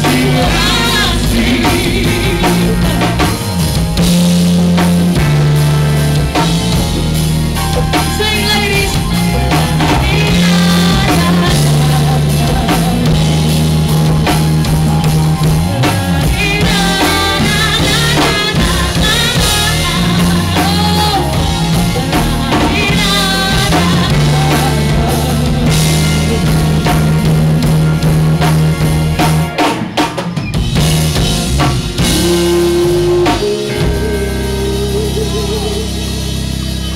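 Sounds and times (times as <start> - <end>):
wavering lead line: 0.0 - 30.0
bass line: 0.0 - 36.9
drum kit: 0.0 - 36.9
rock band playing: 0.0 - 36.9.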